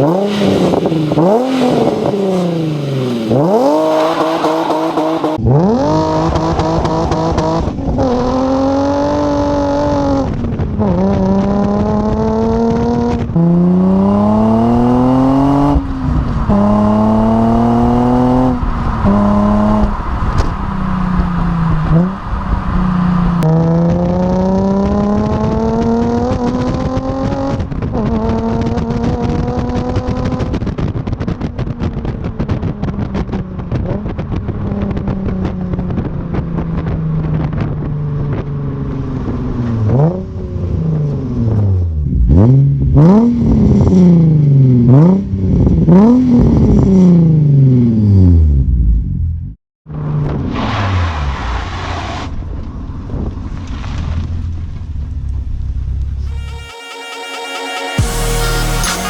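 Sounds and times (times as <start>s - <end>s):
car engine revving through exhaust: 0.0s - 49.2s.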